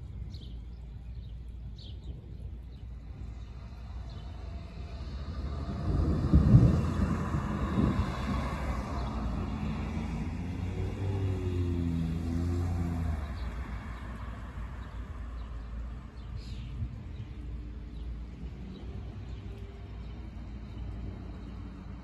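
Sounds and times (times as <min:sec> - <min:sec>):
low rumble: 0:00.0 - 0:21.8
cars driving past: 0:03.0 - 0:22.0.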